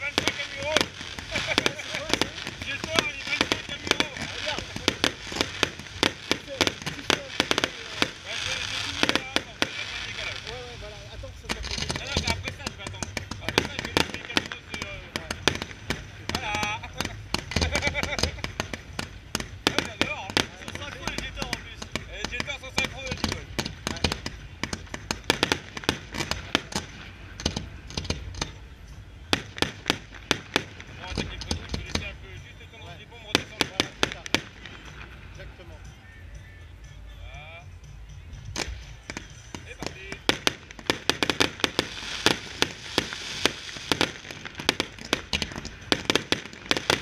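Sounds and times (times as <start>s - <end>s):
fireworks bangs and cracks: 0.0s - 35.7s, 38.5s - 47.0s.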